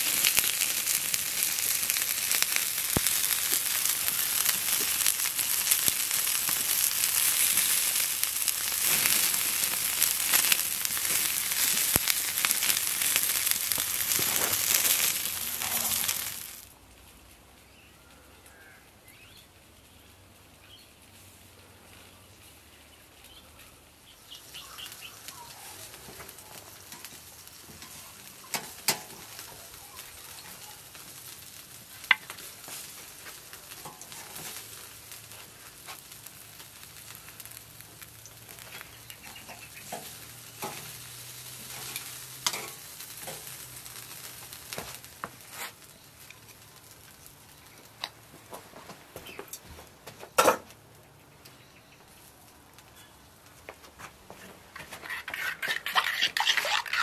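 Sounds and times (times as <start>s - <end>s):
chicken sizzling: 0.0s - 49.7s, 50.3s - 57.0s.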